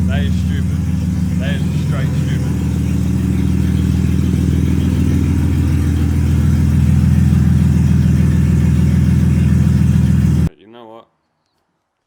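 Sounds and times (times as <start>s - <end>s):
straight-piped car engine running: 0.0s - 10.5s.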